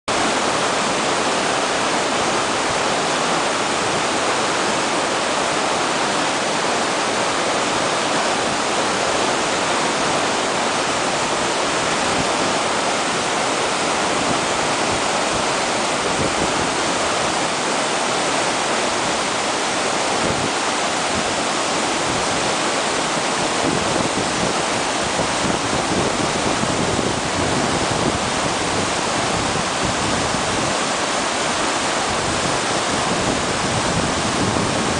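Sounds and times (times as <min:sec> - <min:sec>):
rushing meltwater torrent: 0:00.1 - 0:34.9.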